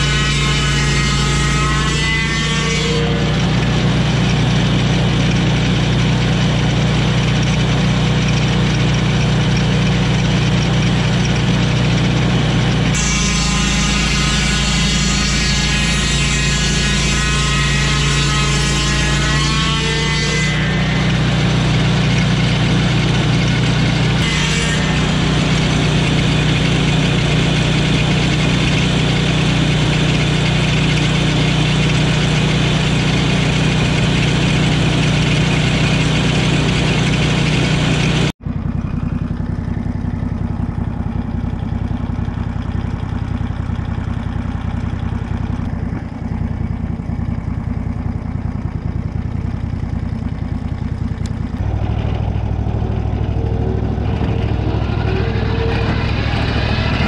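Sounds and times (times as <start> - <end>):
sawmill petrol engine idling: 2.9 - 19.2, 20.6 - 57.0.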